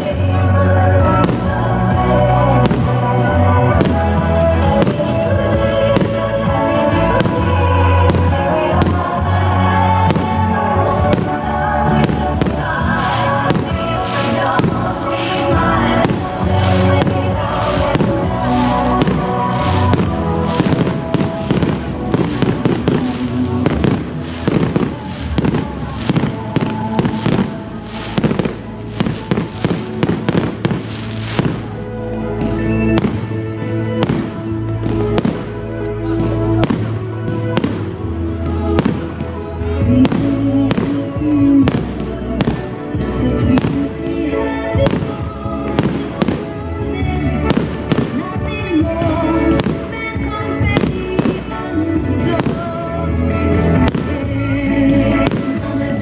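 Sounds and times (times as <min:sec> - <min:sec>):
fireworks bursting and crackling: 0:00.0 - 0:56.0
music playing: 0:00.0 - 0:56.0.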